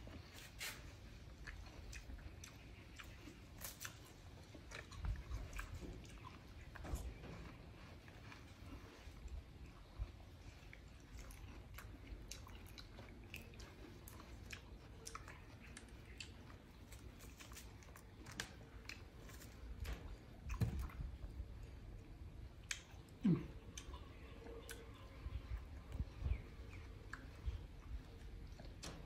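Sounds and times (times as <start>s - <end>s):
watermelon being chewed: 0.0s - 29.0s.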